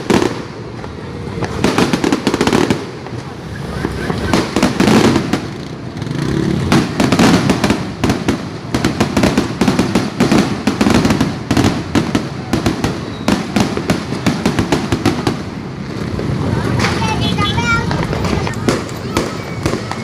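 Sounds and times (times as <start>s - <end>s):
fireworks and firecrackers banging: 0.0s - 20.0s.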